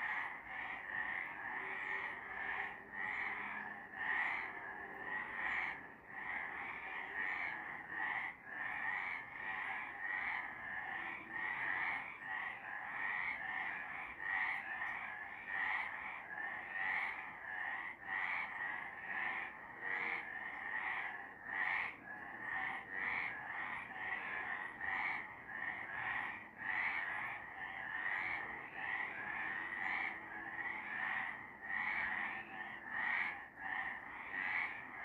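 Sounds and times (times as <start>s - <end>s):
frogs croaking: 0.0s - 35.0s.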